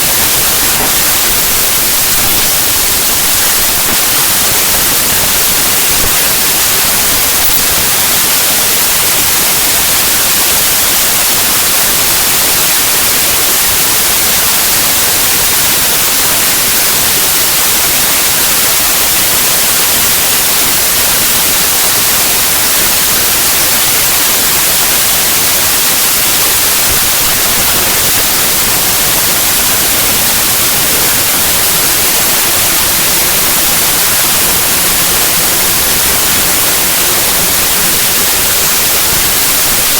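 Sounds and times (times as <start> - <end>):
harsh white noise static: 0.0 - 39.9.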